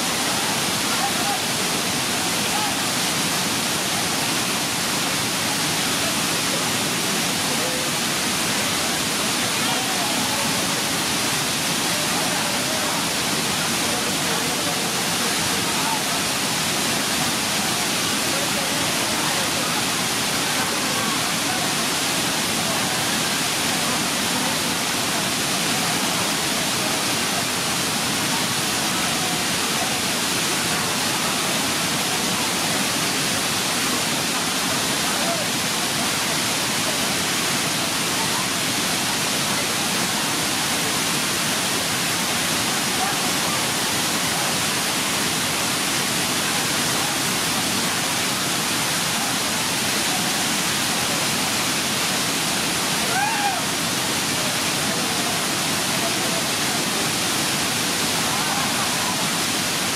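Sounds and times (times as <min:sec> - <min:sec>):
waterfall and river rushing: 0:00.0 - 0:59.9.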